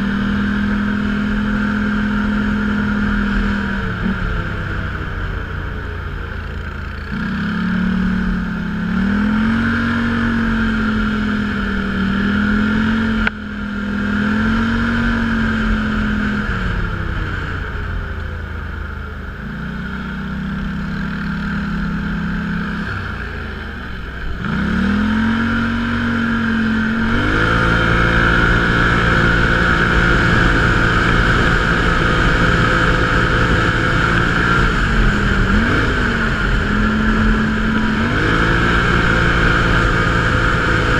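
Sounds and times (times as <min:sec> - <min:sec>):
off-road vehicle engine revving: 0:00.0 - 0:18.2, 0:19.2 - 0:40.9.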